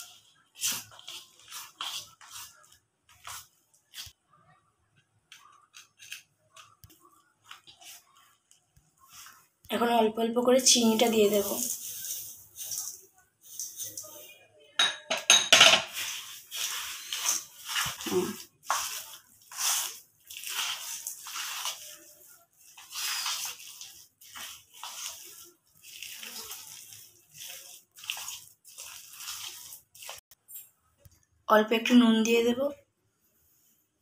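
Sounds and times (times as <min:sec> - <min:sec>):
hand mixing wet dough: 0:00.0 - 0:04.2, 0:05.0 - 0:14.4, 0:15.9 - 0:31.2.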